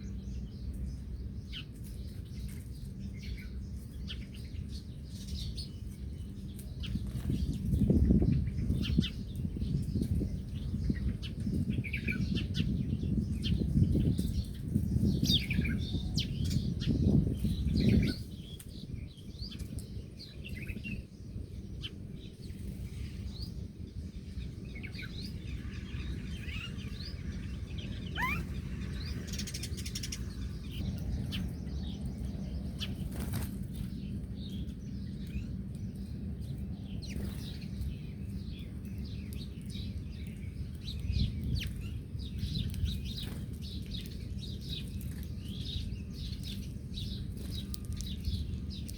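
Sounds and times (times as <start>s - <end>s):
small birds chirping: 0.0s - 48.9s
loud low fluttering noise: 5.6s - 48.9s.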